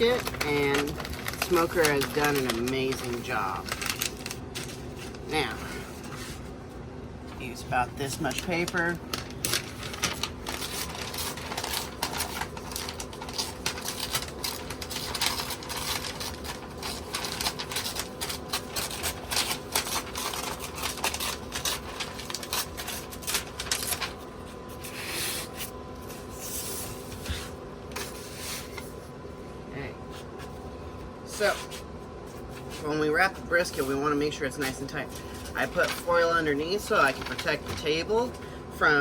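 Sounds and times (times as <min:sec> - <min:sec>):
paper rustling and crinkling: 0:00.0 - 0:29.1, 0:30.0 - 0:38.4.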